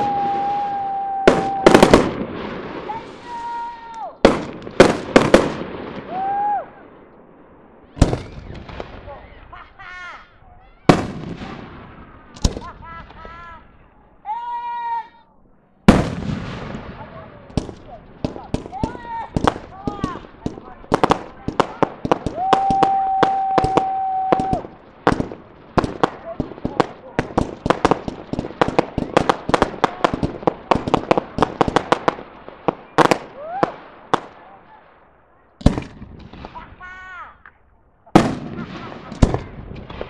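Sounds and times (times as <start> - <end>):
firework sharp crack: 0.0 - 7.2, 7.9 - 9.3, 10.9 - 13.4, 15.9 - 34.6, 35.6 - 37.0, 38.2 - 40.0
firework booms: 0.0 - 9.6, 10.8 - 13.4, 15.9 - 35.0, 35.6 - 36.9, 38.1 - 40.0.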